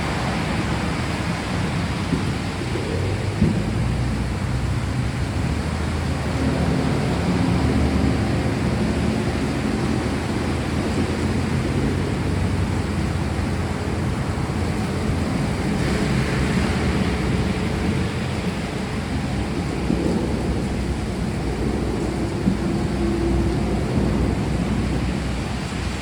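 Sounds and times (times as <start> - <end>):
rolling thunder: 0.0 - 26.0
steady rain hiss: 0.0 - 26.0.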